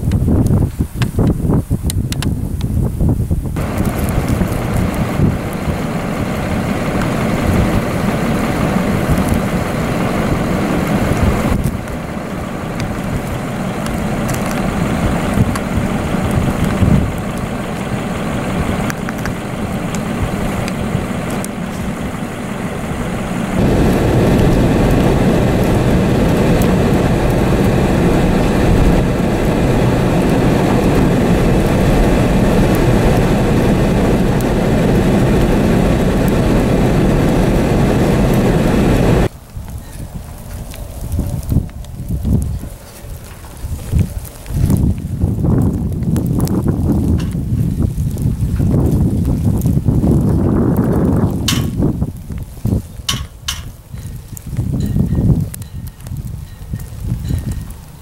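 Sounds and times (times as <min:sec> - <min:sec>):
strong wind buffeting microphone: 0:00.0 - 0:58.0.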